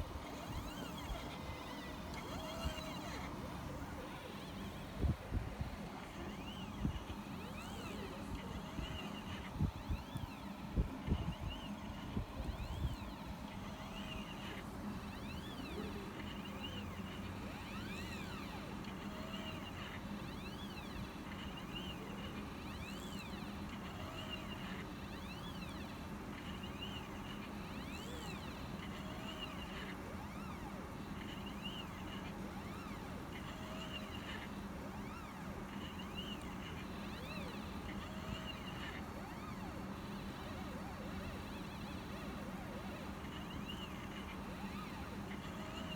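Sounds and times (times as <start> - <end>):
steady low hum: 0.0 - 45.9
stepper motors whining: 0.0 - 45.9.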